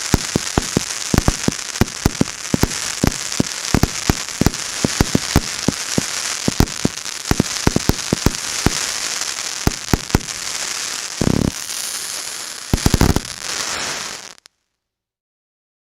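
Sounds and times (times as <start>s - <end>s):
firework bangs: 0.0s - 14.4s
firework crackling hiss: 0.0s - 14.5s.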